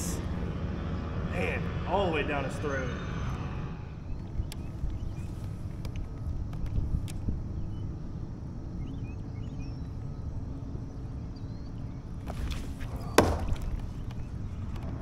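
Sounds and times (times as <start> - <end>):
steady low rumble: 0.0 - 15.0
faint bird chirps: 0.5 - 6.3, 7.1 - 15.0.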